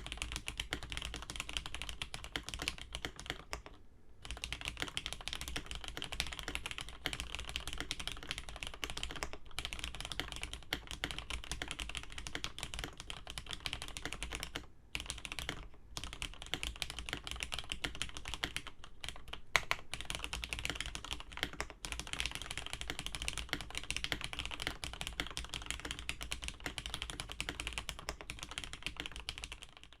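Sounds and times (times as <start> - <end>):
fast typing on a keyboard: 0.0 - 30.0.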